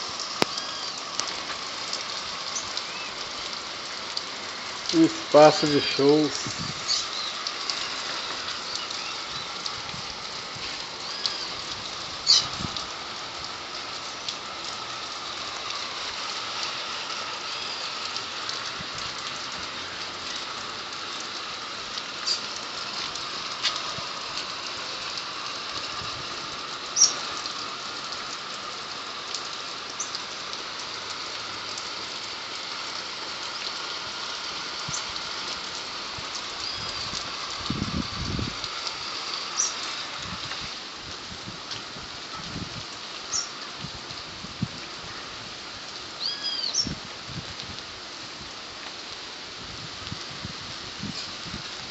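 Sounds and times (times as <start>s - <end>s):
raindrops ticking on something: 0.0s - 51.9s
steady rain hiss: 0.0s - 51.9s.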